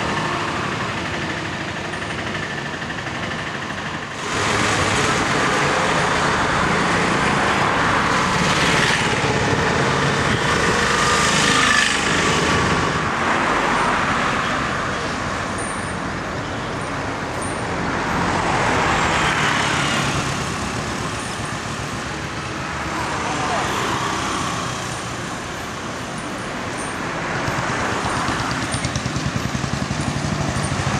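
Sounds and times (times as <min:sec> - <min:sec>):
vehicles passing: 0:00.0 - 0:30.9.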